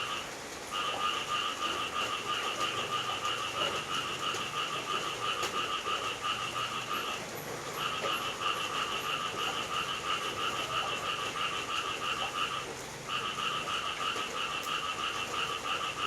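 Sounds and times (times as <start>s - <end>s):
faint rain hiss: 0.0s - 16.0s
frogs calling in chorus: 0.0s - 16.0s.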